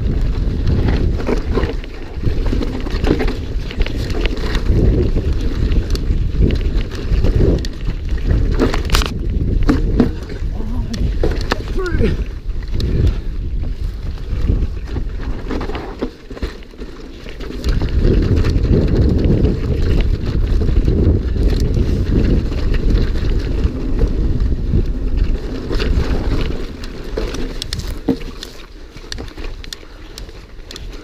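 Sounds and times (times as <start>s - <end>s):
wind buffeting microphone: 0.0s - 16.1s, 17.2s - 31.0s.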